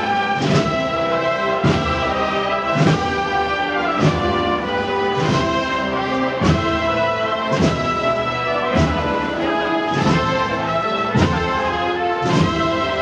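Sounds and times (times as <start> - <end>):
brass band playing slow march: 0.0 - 13.0.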